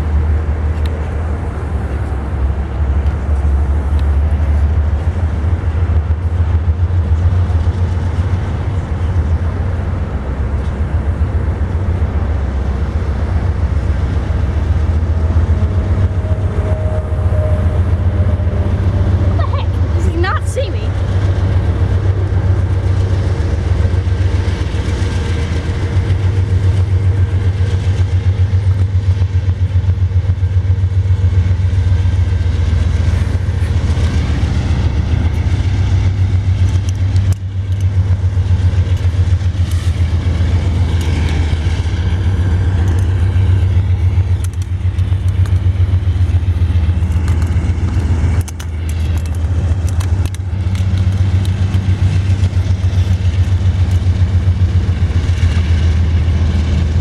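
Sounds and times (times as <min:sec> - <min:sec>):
diesel locomotive engines droning: 0:00.0 - 0:57.0.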